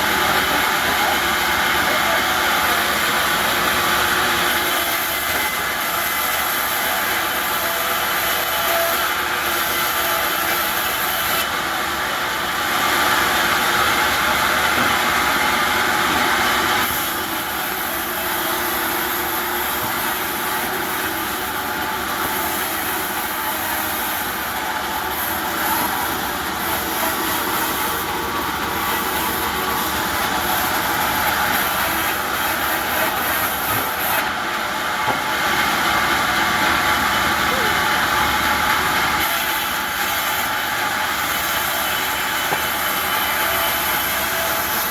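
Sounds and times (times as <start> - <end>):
steady mechanical running noise: 0.0 - 44.9.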